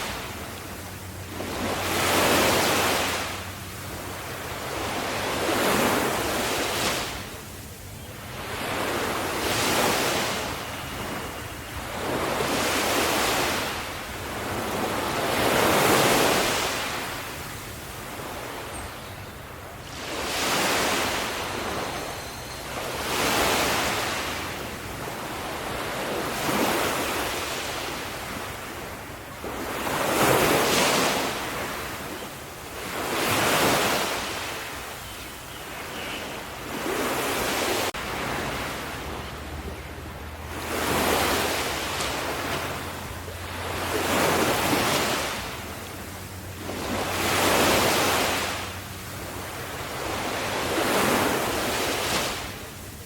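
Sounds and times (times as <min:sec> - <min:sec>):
ocean waves washing in: 0:00.0 - 0:53.0.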